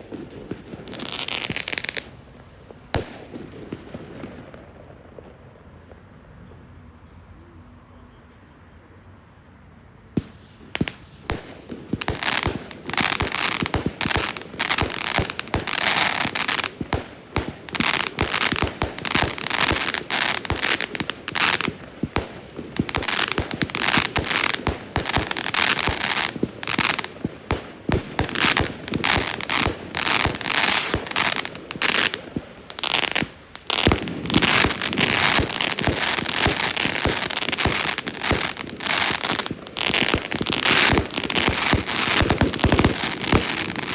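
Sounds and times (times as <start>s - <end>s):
fireworks bangs and crackling: 0.0s - 6.6s, 10.2s - 43.9s.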